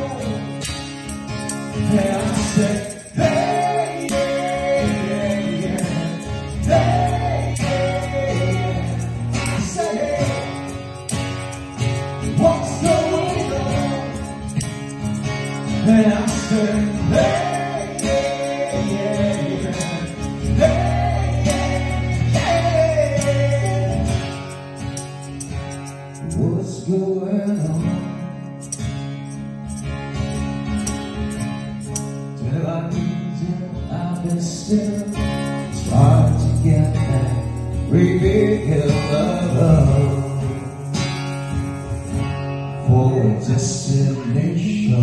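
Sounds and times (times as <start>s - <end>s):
strummed acoustic guitar: 0.0s - 45.0s.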